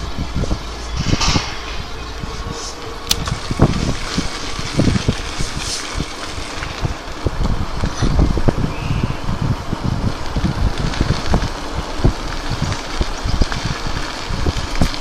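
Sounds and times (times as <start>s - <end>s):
bike clicks: 0.0s - 15.0s
wind buffeting microphone: 0.0s - 15.0s.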